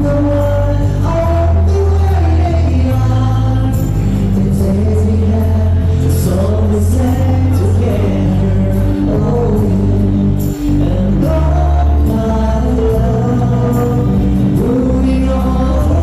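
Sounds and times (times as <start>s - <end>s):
held bass notes: 0.0s - 16.0s
person singing: 0.0s - 16.0s.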